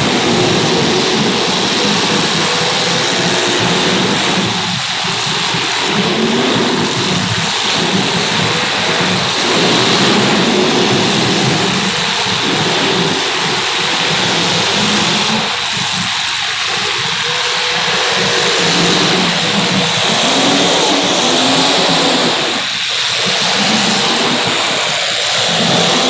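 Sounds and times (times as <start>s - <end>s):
hiss: 0.0s - 26.0s.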